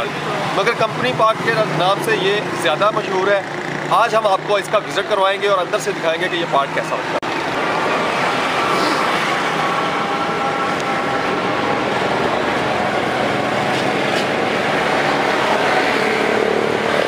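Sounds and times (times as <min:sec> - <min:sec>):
road traffic rushing past: 0:00.0 - 0:17.0.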